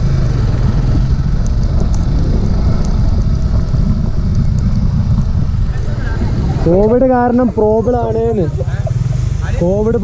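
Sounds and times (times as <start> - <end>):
wind buffeting microphone: 0.0 - 9.3
motorcycle rumble: 0.0 - 10.0.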